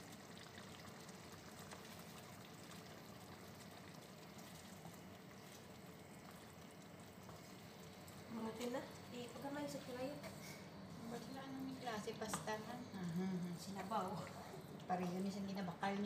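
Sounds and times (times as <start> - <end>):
sauce simmering in a wok: 0.0 - 16.0
noodles being stirred: 1.3 - 16.0.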